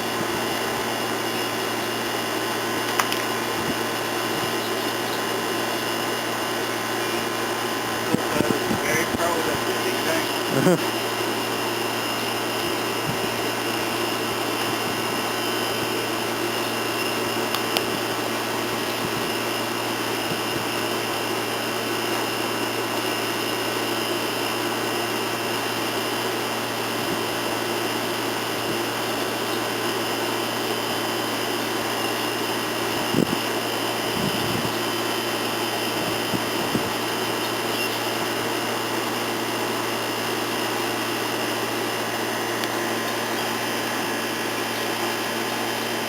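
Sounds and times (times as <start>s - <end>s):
electric motor whirring hum: 0.0s - 46.0s.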